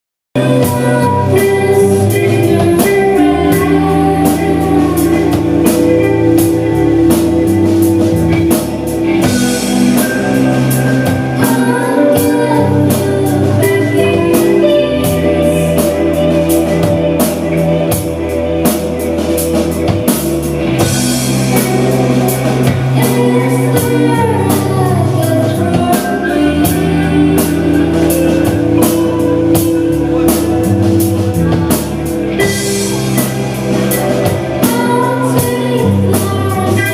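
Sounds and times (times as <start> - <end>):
bass guitar: 0.4 - 36.9
drum kit beat: 0.4 - 36.9
electric guitar: 0.4 - 36.9.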